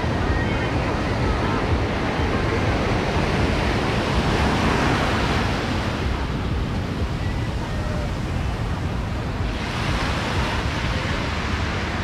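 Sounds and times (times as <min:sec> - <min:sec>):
ocean surf washing onto beach: 0:00.0 - 0:12.0
wind rumbling on microphone: 0:00.0 - 0:12.0.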